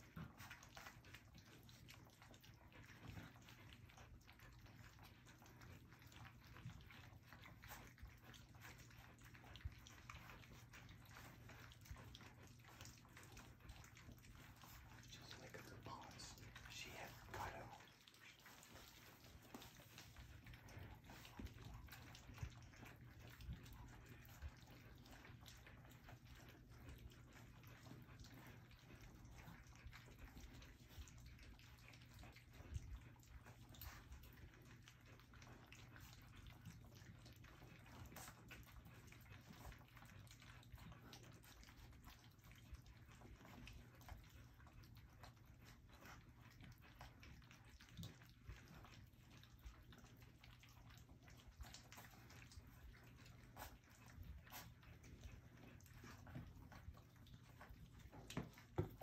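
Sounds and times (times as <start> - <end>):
low steady hum: 0.0 - 59.0
puppies licking from dish: 0.0 - 59.0.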